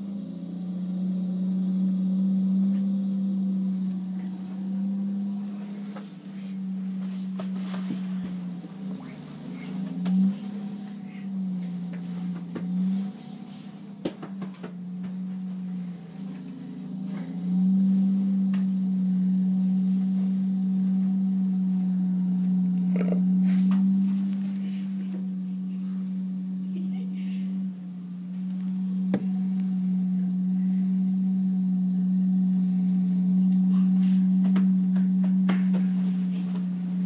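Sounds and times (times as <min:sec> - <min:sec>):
snowblower engine drone: 0:00.0 - 0:37.0.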